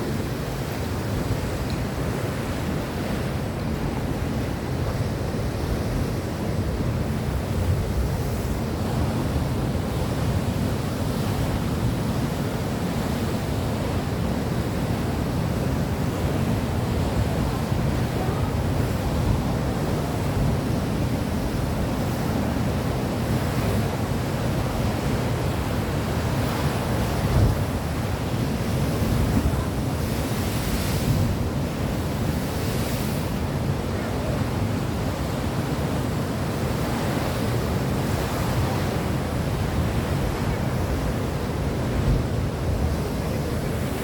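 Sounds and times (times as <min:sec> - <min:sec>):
sea waves washing on shore: 0:00.0 - 0:44.0
wind rumbling on microphone: 0:00.0 - 0:44.0.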